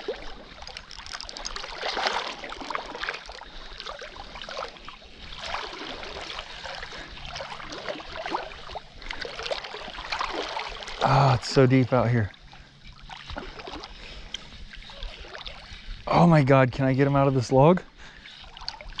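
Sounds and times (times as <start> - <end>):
water splashing from wading: 0.0 - 16.2, 17.9 - 19.0.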